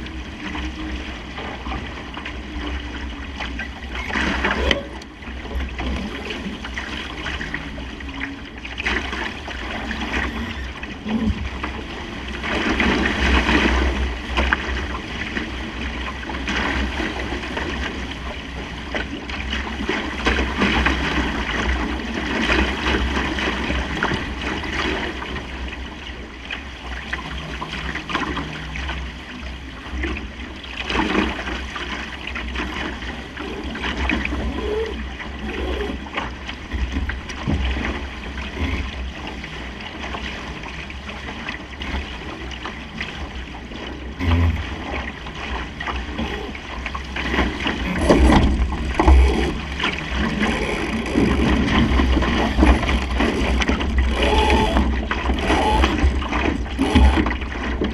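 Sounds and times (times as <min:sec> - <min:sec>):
water splashing along boat hull: 0:00.0 - 0:57.9.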